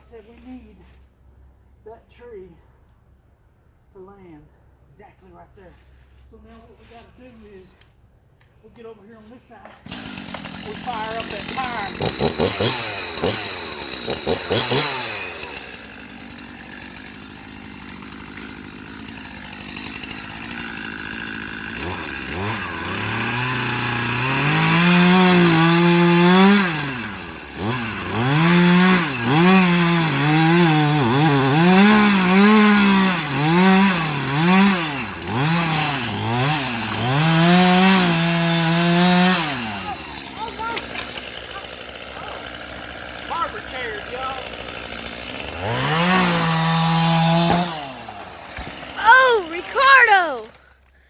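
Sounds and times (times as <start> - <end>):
chainsaw revving: 9.8 - 50.7.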